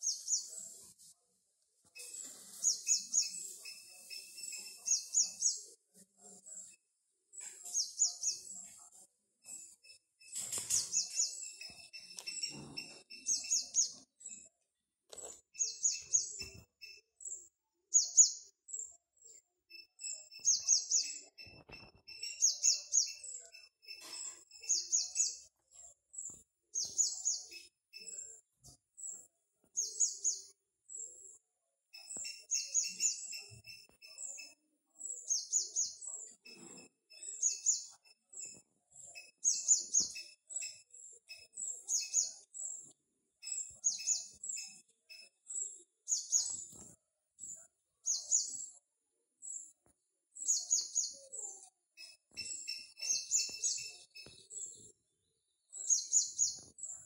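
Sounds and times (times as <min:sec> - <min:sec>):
faint lower bird twitter: 0:00.0 - 0:01.0, 0:01.9 - 0:14.5, 0:15.6 - 0:48.8, 0:50.4 - 0:57.0
small bird chirping: 0:00.0 - 0:01.0, 0:01.9 - 0:57.0.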